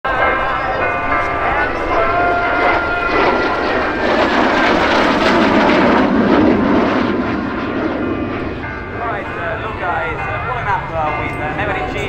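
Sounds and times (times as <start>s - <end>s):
jet engine roar: 0.1s - 12.0s.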